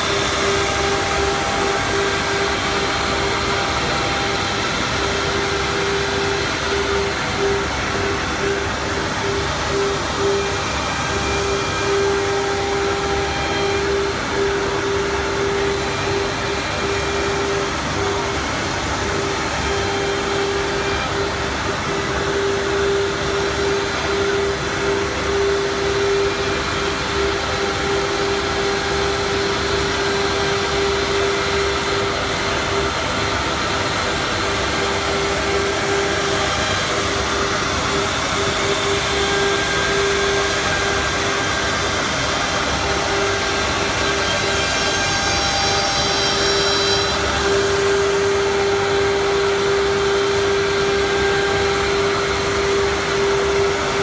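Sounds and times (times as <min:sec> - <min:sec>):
wood router whining: 0:00.0 - 0:54.0.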